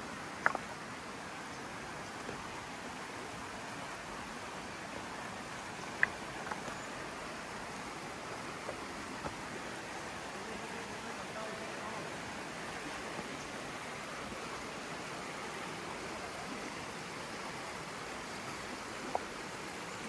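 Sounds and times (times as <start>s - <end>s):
river rushing over stones: 0.0s - 20.0s.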